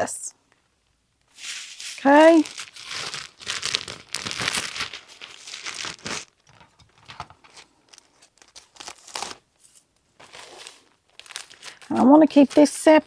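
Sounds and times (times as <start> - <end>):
batting crinkling and rustling: 1.2 - 13.0.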